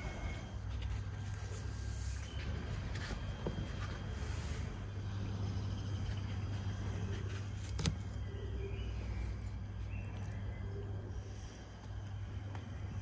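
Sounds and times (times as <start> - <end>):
low outdoor background hum: 0.0 - 13.0.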